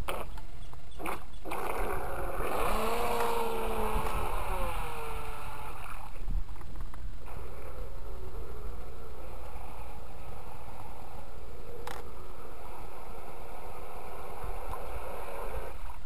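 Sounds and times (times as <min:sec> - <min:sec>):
wind rumble on microphone: 0:00.8 - 0:16.0
model boat motor whining: 0:01.1 - 0:06.2, 0:07.3 - 0:16.0.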